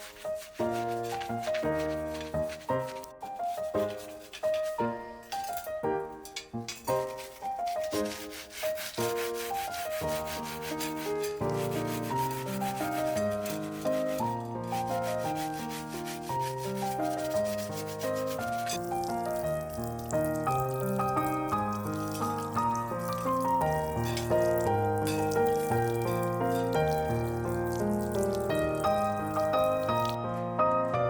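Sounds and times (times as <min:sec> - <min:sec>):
scrubbing metal grate: 0:00.0 - 0:30.2
background music: 0:00.0 - 0:31.0.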